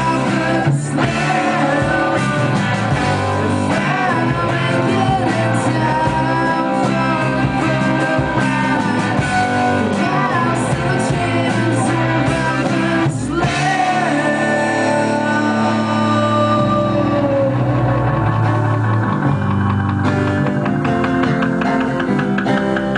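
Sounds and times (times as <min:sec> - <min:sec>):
person singing: 0:00.0 - 0:22.9
rock band playing live: 0:00.0 - 0:22.9.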